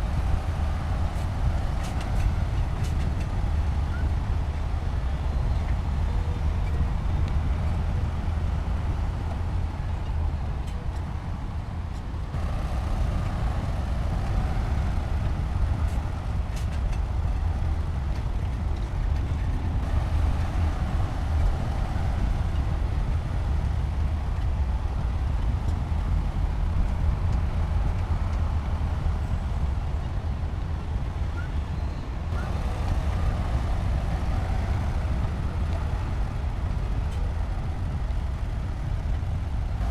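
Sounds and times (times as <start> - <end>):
diesel machinery engine rumble: 0.0 - 39.9.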